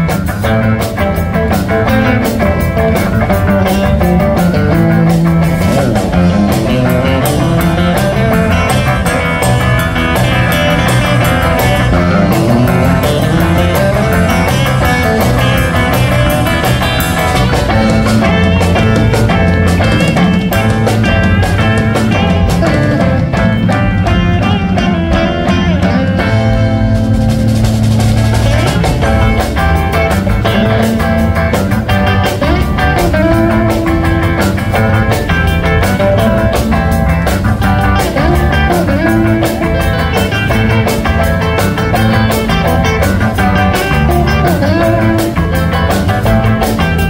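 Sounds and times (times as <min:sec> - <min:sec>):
drum kit: 0:00.0 - 0:47.0
electric bass: 0:00.0 - 0:47.0
electric guitars: 0:00.0 - 0:47.0.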